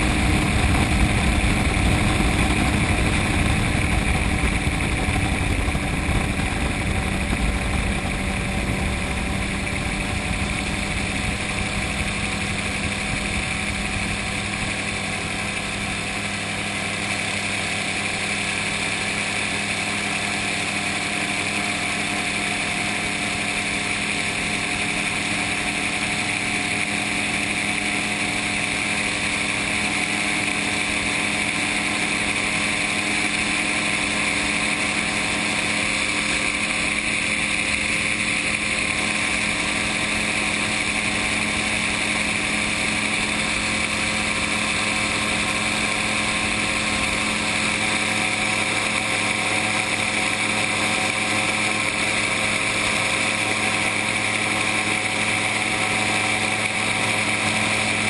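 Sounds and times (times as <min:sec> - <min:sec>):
gyrocopter engine droning: 0:00.0 - 0:58.0
rush of air: 0:00.0 - 0:58.0.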